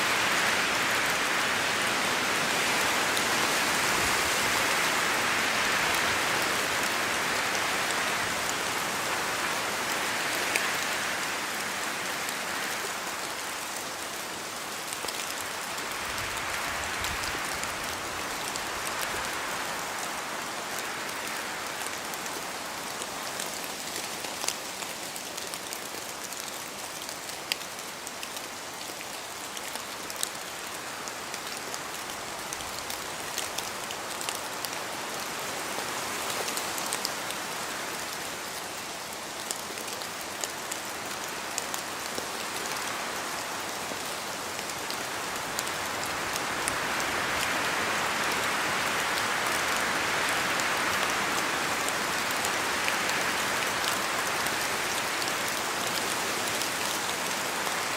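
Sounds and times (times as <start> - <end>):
rain in a forest: 0.0 - 57.9
wind gusts through trees: 0.0 - 57.9.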